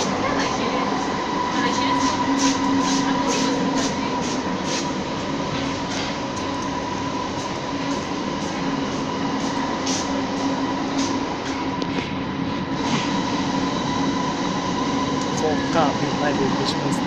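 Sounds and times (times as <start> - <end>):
light-rail train running: 0.0 - 17.0.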